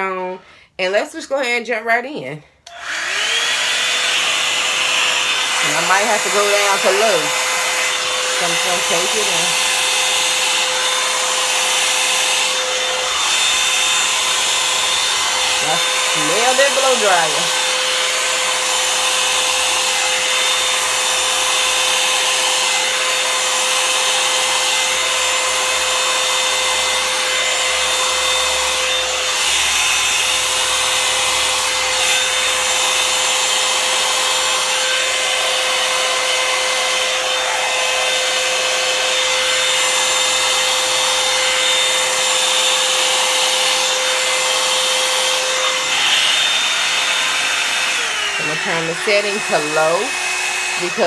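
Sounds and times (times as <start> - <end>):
hair dryer running: 2.6 - 51.0.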